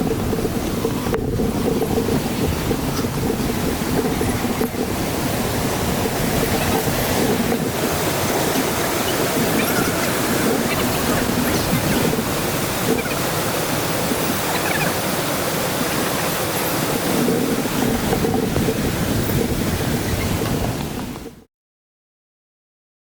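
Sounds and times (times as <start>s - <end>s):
waterfall rushing: 0.0s - 21.2s.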